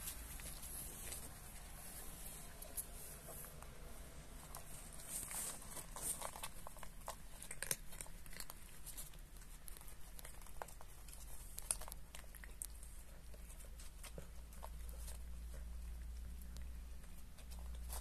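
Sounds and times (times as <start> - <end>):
cats crunching dry kibble: 0.0 - 18.0.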